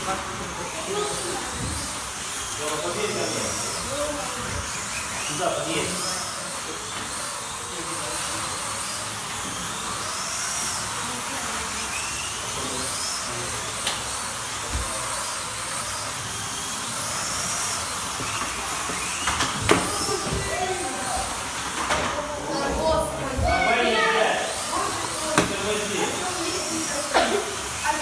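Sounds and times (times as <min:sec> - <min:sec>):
slot car motors whining: 0:00.0 - 0:28.0.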